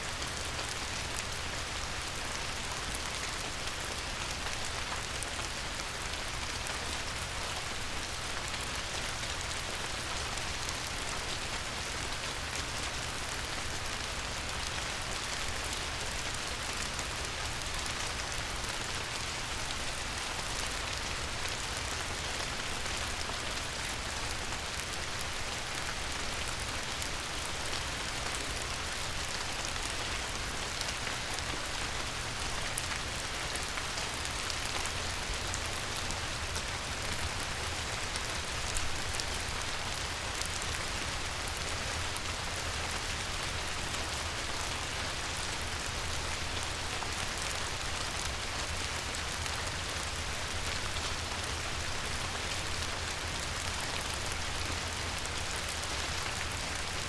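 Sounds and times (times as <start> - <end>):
light rain falling on a river: 0.0 - 57.0.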